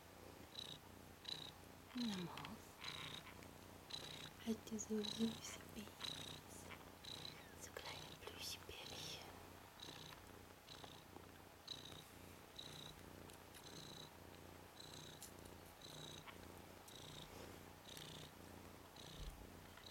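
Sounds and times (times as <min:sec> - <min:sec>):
cat purring softly: 0:00.0 - 0:19.9.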